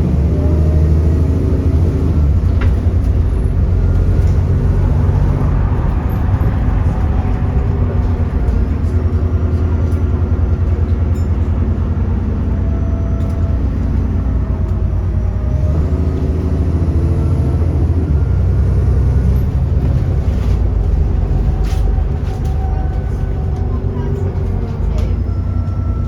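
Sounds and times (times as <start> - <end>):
bus engine pulling under load: 0.0 - 26.0.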